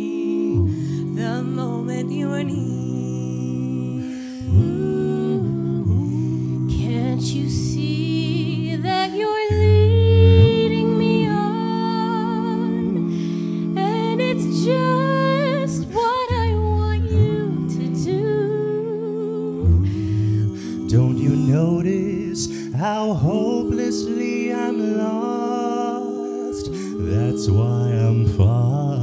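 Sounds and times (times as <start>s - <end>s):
a cappella vocal quartet: 0.0s - 29.0s.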